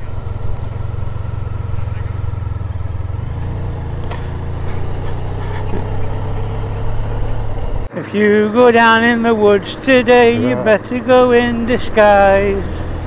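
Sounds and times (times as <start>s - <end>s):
motorcycle engine running: 0.0s - 7.9s, 9.0s - 13.0s
tyre and road noise: 0.0s - 7.9s, 8.6s - 13.0s.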